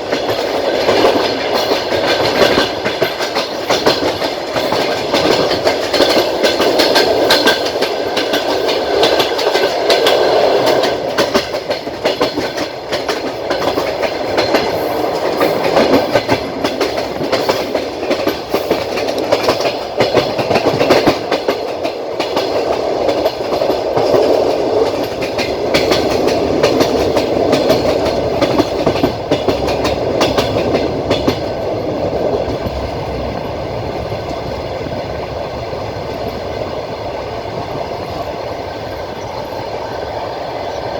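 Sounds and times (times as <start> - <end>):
train wheels clattering over rail joints: 0.0 - 35.2
train rumbling on track: 0.0 - 40.9.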